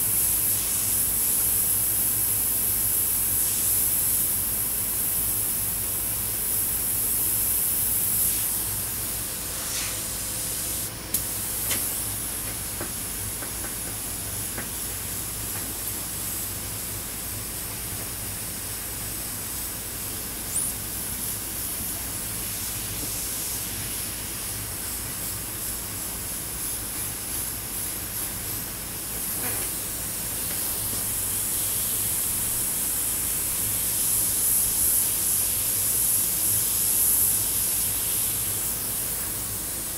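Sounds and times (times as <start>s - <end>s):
airbrush hissing: 0.0s - 39.9s.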